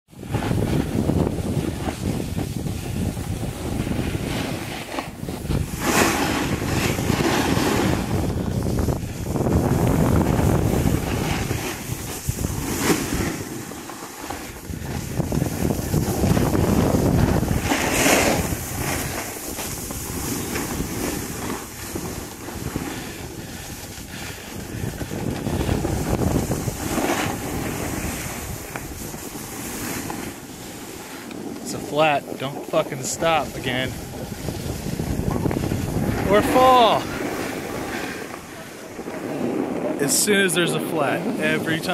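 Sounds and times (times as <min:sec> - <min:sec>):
snow scraping: 0:00.1 - 0:41.9
wind rushing over microphone: 0:00.1 - 0:41.9.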